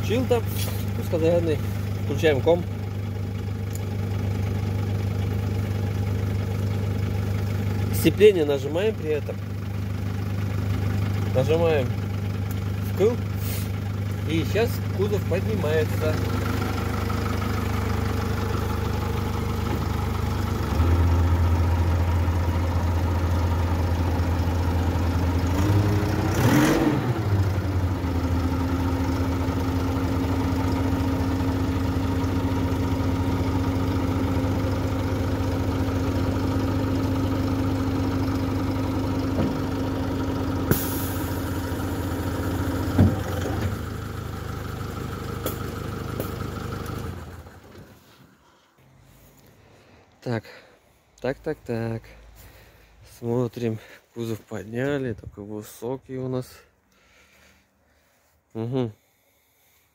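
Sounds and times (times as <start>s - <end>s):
truck engine running: 0.0s - 49.9s.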